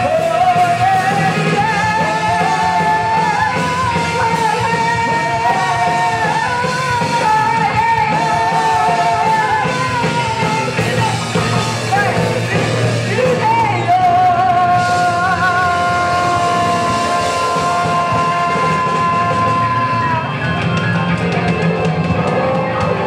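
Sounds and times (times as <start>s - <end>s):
person singing: 0.0s - 21.4s
rock band playing: 0.0s - 23.0s.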